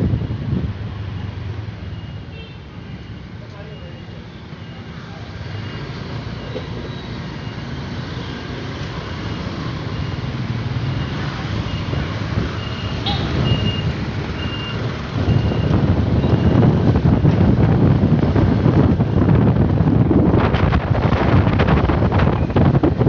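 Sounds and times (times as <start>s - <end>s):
vehicle road rumble: 0.0s - 23.0s.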